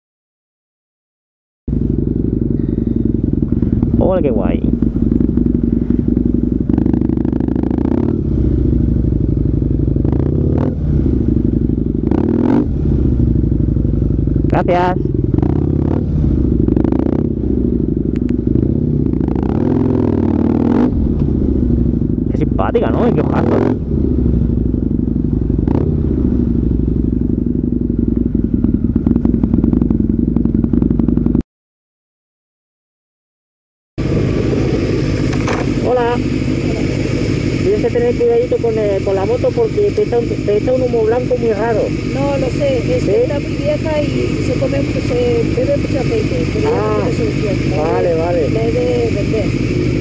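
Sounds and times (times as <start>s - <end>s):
motorcycle engine running: 1.7s - 31.4s, 34.0s - 50.0s.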